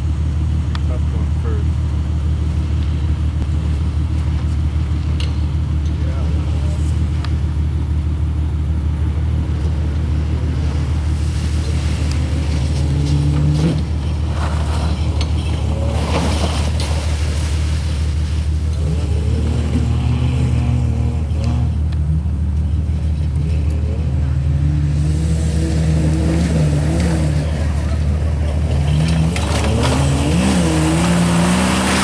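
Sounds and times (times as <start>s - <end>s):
engine revving: 2.4s - 32.0s
tyres churning through mud: 2.4s - 32.0s.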